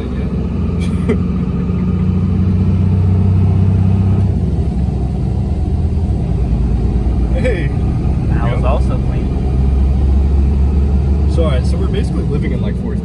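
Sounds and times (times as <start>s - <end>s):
diesel engine drone in cab: 0.0s - 13.0s.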